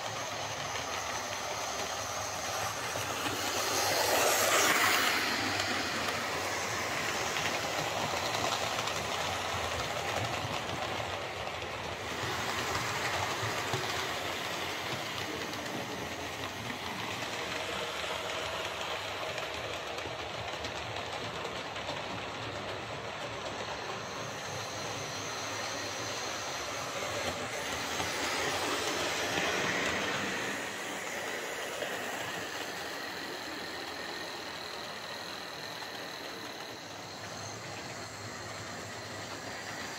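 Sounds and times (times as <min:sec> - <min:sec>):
model train wheels rattling on rail: 0:00.0 - 0:39.9.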